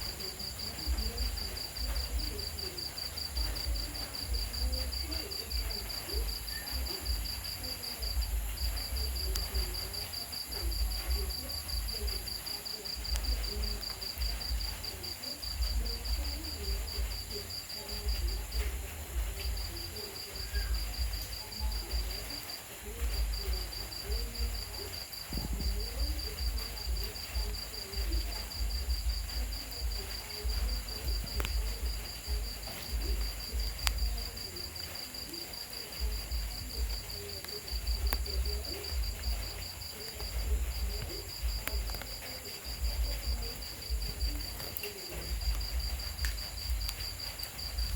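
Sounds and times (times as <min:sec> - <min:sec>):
cricket chirping: 0:00.0 - 0:47.9
insects trilling: 0:00.0 - 0:47.9.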